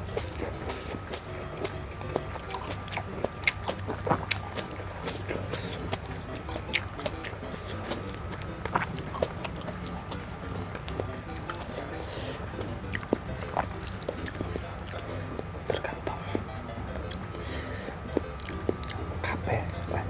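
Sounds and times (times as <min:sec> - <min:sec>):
low hum: 0:00.0 - 0:20.0
mouth clicks: 0:00.0 - 0:20.0
person chewing food: 0:00.0 - 0:20.0.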